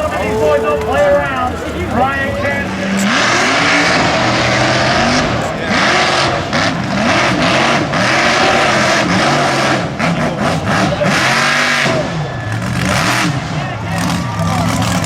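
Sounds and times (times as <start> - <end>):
steady rush of noise: 0.0 - 15.0
truck engine revving: 0.0 - 15.0.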